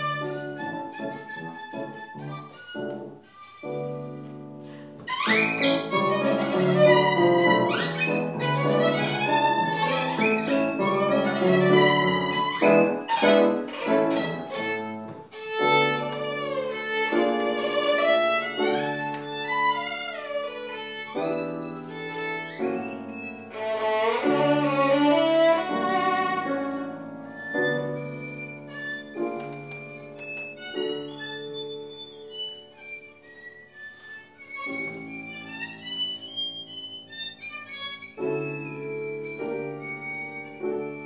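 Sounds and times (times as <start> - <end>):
piano accompaniment: 0.0 - 41.0
violin playing lively melody: 0.0 - 41.0.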